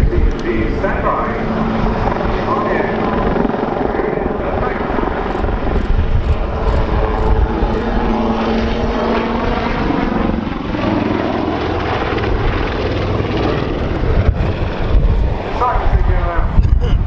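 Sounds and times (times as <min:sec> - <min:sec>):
helicopter rotor and turbine noise: 0:00.0 - 0:17.0
turbine whine: 0:00.0 - 0:17.0.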